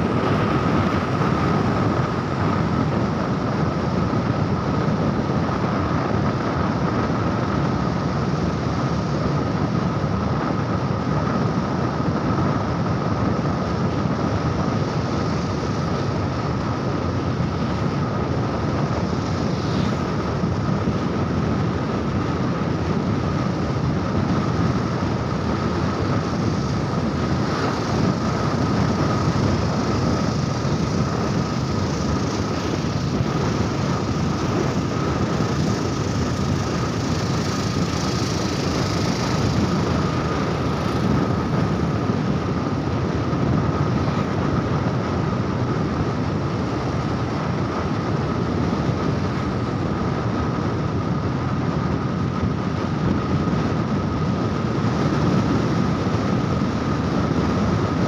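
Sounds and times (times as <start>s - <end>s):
motorcycle riding: 0.0s - 58.0s
thin steady whine: 0.0s - 58.0s.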